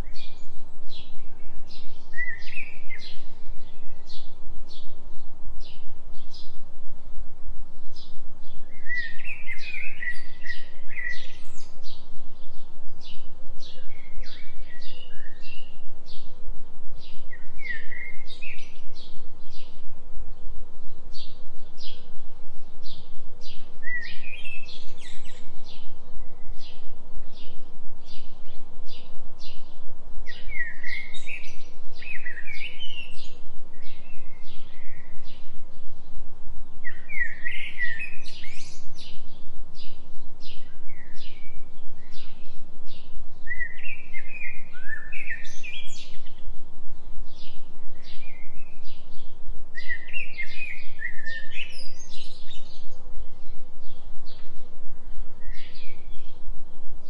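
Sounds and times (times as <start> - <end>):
steady low tone: 0.0 - 57.0.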